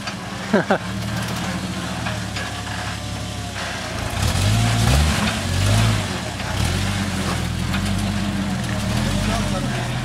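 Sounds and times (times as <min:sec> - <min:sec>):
engine running and revving: 0:00.0 - 0:10.0.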